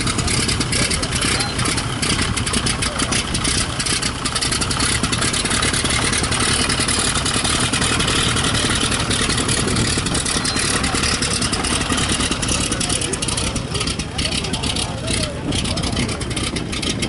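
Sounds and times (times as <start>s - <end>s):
propeller plane engine running: 0.0s - 17.0s.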